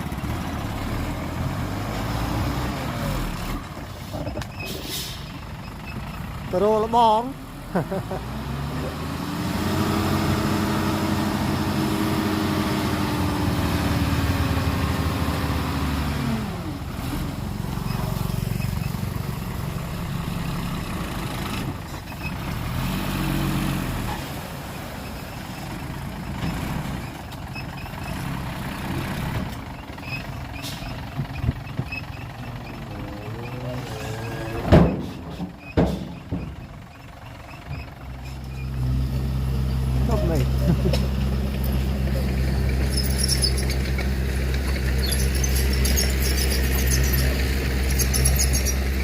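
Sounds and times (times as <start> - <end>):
diesel machinery engine drone: 0.0 - 49.0.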